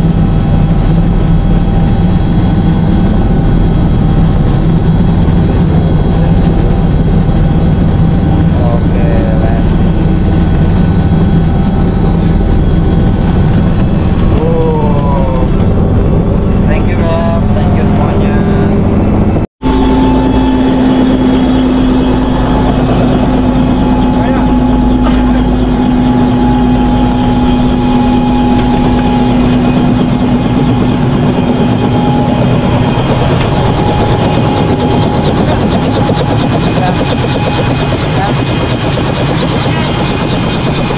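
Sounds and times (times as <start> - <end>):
faint whining tones: 0.0 - 40.8
helicopter engine and rotor: 0.0 - 40.9.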